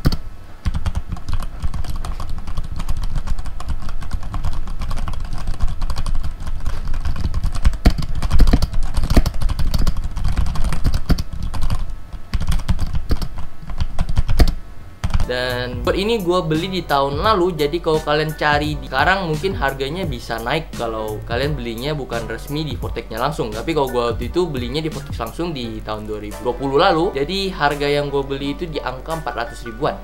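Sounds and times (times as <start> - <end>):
mechanical keyboard typing: 0.0 - 29.8.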